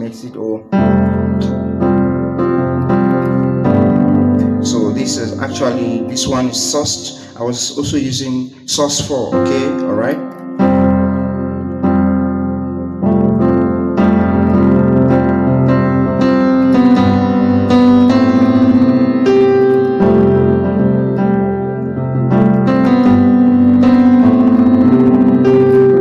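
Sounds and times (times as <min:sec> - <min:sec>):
piano playing chords: 0:00.0 - 0:26.0.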